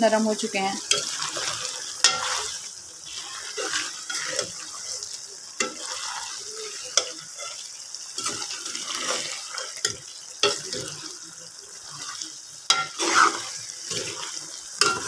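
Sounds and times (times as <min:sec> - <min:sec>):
curry sizzling and bubbling: 0:00.0 - 0:15.0
metal spoon scraping pan: 0:00.8 - 0:11.0, 0:12.0 - 0:15.0.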